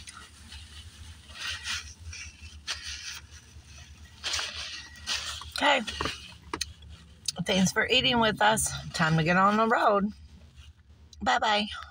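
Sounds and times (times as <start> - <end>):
rustling handling noises: 0.0 - 11.2
low steady hum in car: 0.0 - 11.9.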